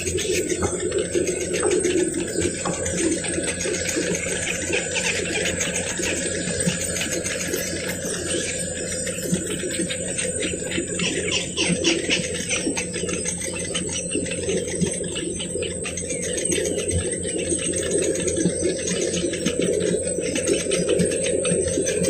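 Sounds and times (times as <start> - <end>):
heron chicks clicking calls: 0.0 - 22.0
steady high-pitched whine: 0.0 - 22.0.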